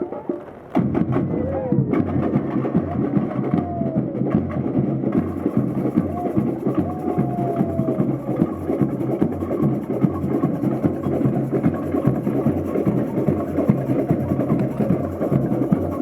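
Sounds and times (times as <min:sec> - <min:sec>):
samba percussion band: 0:00.0 - 0:16.0
deep pulsing bass drum: 0:00.8 - 0:16.0.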